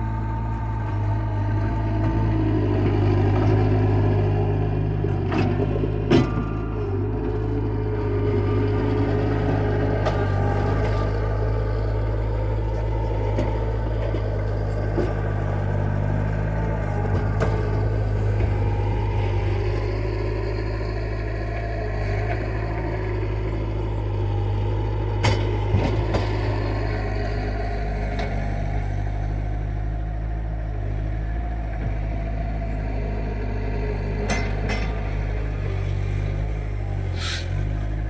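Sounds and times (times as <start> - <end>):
skid steer diesel engine: 0.0 - 38.0.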